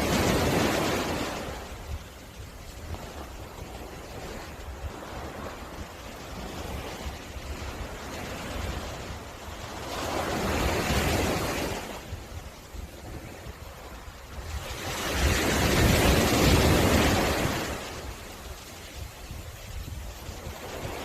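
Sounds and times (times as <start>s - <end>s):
sea waves breaking on beach: 0.0s - 21.0s
wind rumble on microphone: 0.0s - 21.0s.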